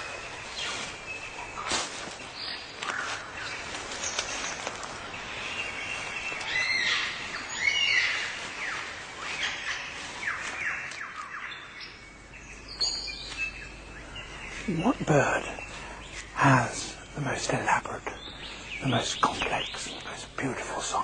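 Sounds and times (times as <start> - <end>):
birds singing and calling: 0.0 - 21.0.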